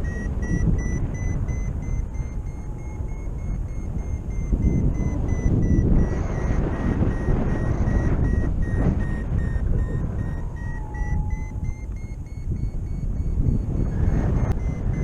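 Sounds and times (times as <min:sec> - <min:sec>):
variometer beeping in quick pulses: 0:00.0 - 0:15.0
wind noise on microphone: 0:00.0 - 0:15.0.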